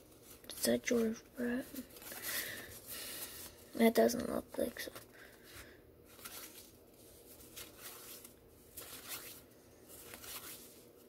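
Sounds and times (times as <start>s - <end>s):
cards rustling and swishing: 0.0s - 11.0s.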